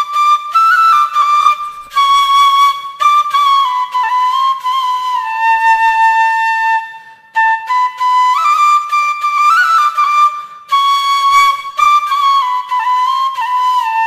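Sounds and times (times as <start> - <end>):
bamboo flute melody: 0.0 - 14.0.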